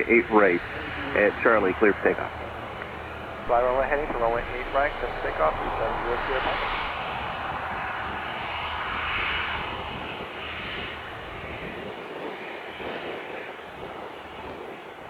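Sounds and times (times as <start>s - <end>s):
airplane engine drone: 0.0s - 14.5s.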